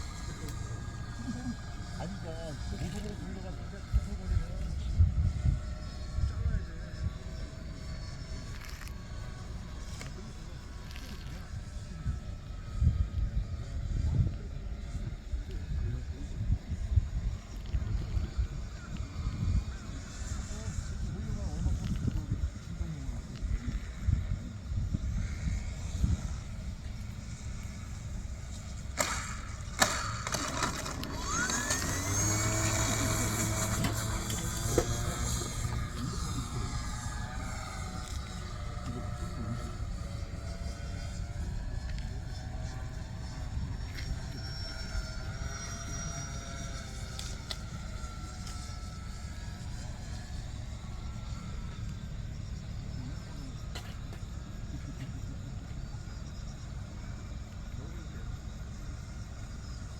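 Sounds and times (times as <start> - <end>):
wind rumble on microphone: 0.0 - 59.2
model plane motor whine: 0.0 - 59.9.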